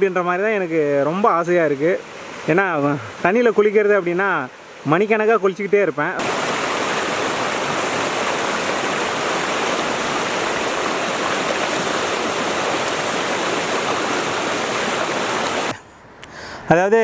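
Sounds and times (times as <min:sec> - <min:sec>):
river water rushing: 0:00.1 - 0:05.0, 0:06.2 - 0:15.8.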